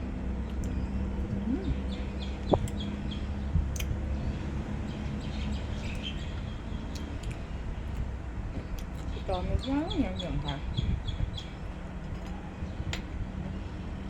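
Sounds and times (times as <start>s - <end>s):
low background hum: 0.0s - 14.0s
birds chirping: 0.3s - 12.9s.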